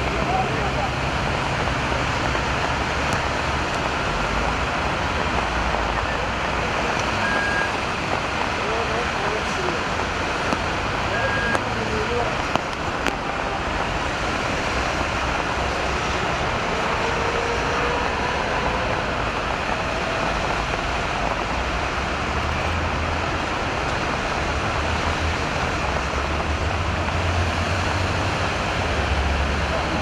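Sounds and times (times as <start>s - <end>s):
heavy traffic on wet road: 0.0s - 30.0s.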